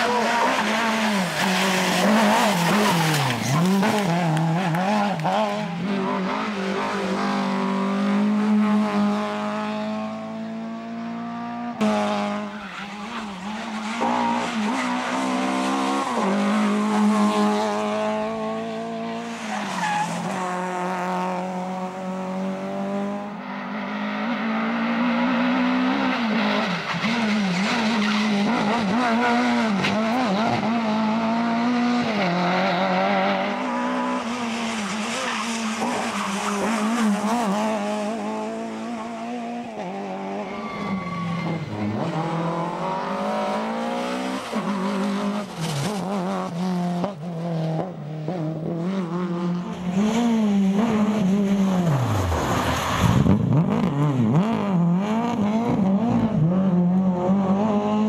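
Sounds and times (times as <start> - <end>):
rally car engines passing at speed: 0.0 - 58.0.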